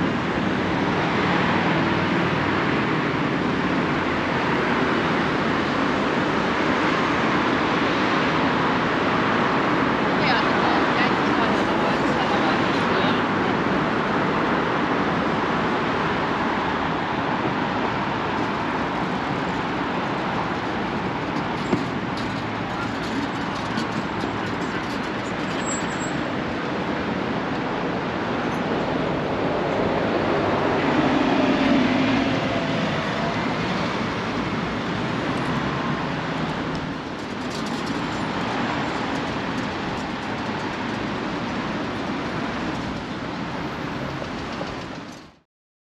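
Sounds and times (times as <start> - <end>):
rumble of city vehicles: 0.0 - 45.4.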